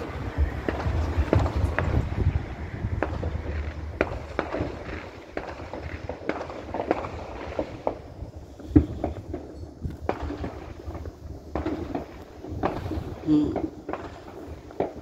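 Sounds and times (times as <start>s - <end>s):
fireworks popping: 0.0s - 15.0s.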